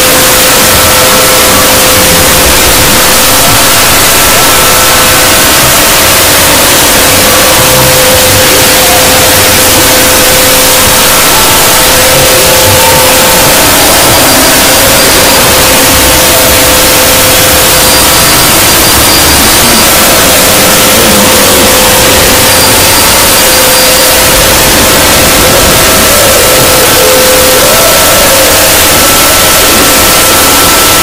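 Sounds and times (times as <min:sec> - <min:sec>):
faint steady tones: 0:00.0 - 0:31.0
harsh distorted noise: 0:00.0 - 0:31.0.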